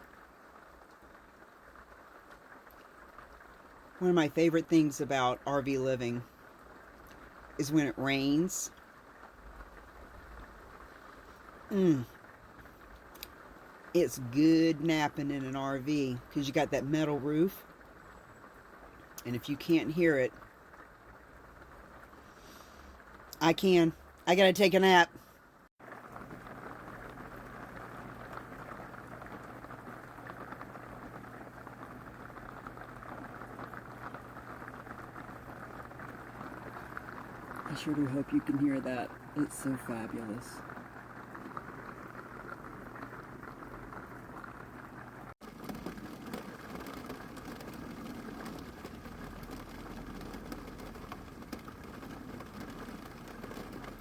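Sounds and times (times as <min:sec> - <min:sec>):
rain drumming on metal roof: 0:00.0 - 0:54.0.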